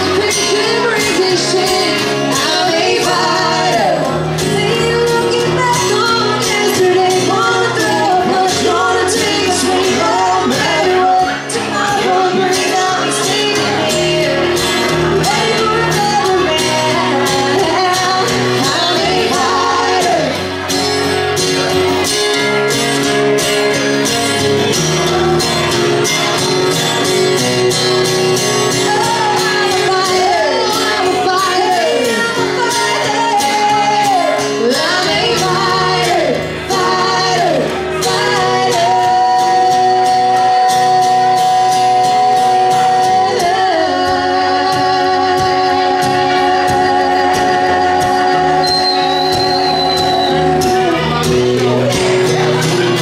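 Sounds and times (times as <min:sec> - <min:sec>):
person singing: 0:00.0 - 0:20.9, 0:27.3 - 0:53.0
live band music: 0:00.0 - 0:53.0.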